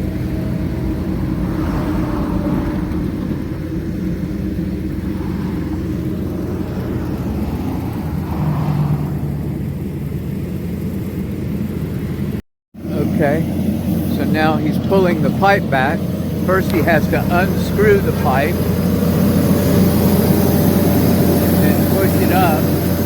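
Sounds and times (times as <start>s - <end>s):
drill rig engine running: 0.0s - 23.0s.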